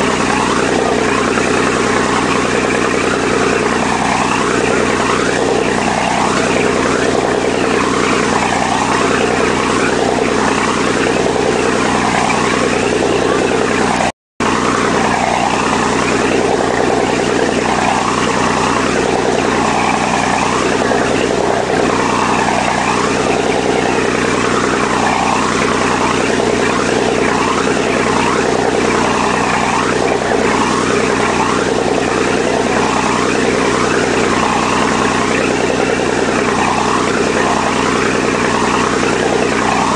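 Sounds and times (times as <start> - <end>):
boat engine running: 0.0 - 39.9
rush of churned water: 0.0 - 39.9.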